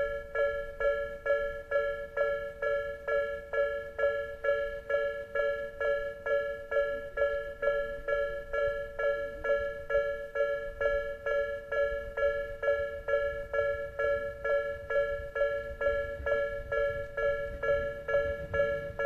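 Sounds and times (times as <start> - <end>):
level-crossing alarm bell ringing: 0.0 - 19.0.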